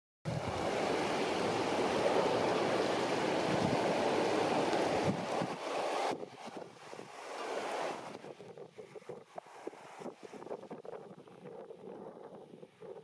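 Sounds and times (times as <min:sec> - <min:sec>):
wind buffeting microphone: 0:00.3 - 0:13.0.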